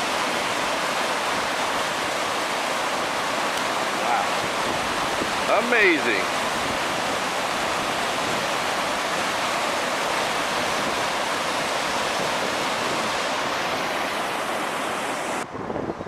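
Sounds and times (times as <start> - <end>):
river rushing water: 0.0 - 16.0.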